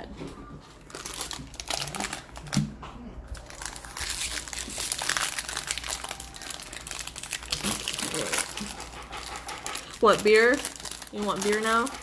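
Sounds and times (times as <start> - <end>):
plastic wrapper crinkling: 0.8 - 12.0.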